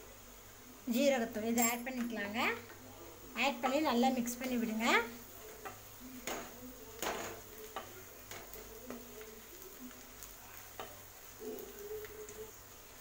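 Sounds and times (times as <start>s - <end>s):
onions sizzling: 0.0s - 13.0s.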